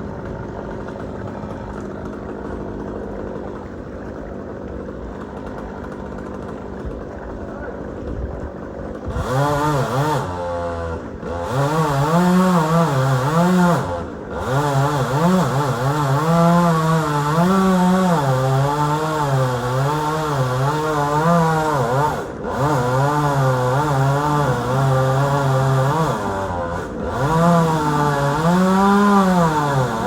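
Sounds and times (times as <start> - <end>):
chainsaw cutting wood: 0.0 - 7.3, 8.8 - 30.0.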